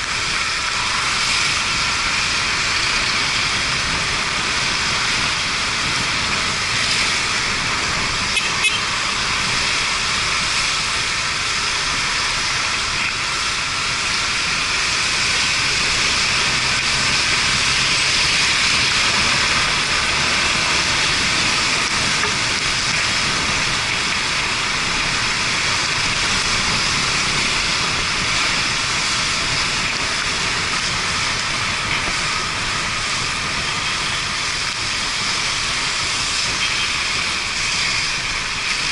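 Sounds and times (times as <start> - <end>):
tyre spray on wet road: 0.0 - 38.9.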